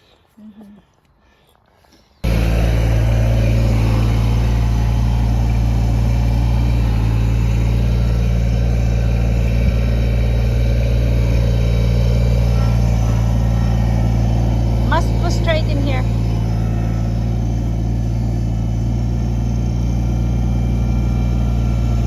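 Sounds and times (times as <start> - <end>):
tractor diesel engine running: 2.2 - 22.0.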